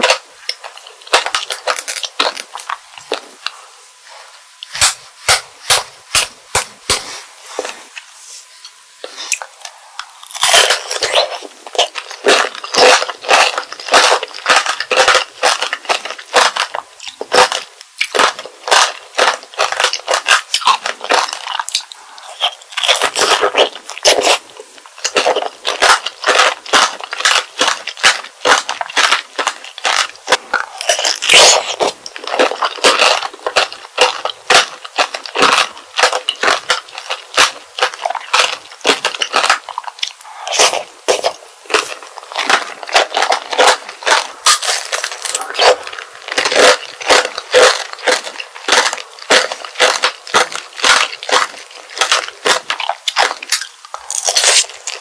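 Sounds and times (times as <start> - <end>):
candy shell crunching in teeth: 0.0 - 3.5, 9.0 - 55.0
chewing juicy fruit: 0.0 - 55.0.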